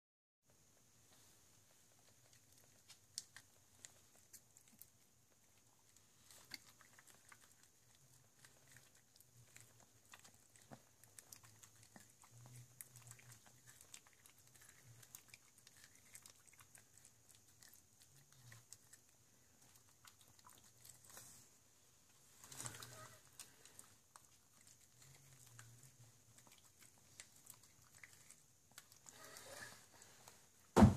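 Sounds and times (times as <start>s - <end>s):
dog crunching corn: 1.8s - 21.5s, 22.3s - 30.7s.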